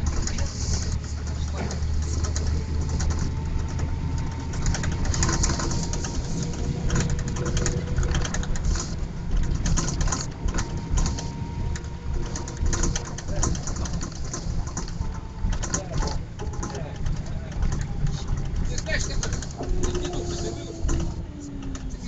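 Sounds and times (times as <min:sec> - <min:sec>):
bus body rattling: 0:00.0 - 0:22.0
bus engine droning: 0:00.0 - 0:22.0.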